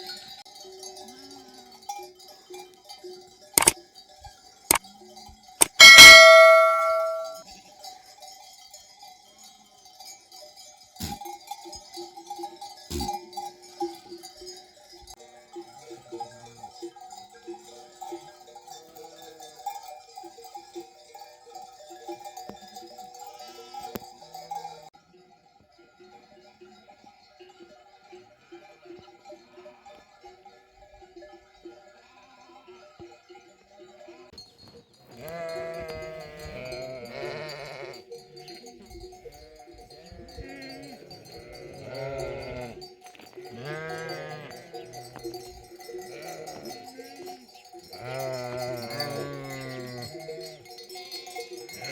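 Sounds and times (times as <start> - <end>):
sheep bell clanging: 0.0 - 51.9
sheep bells jingling: 0.0 - 51.9.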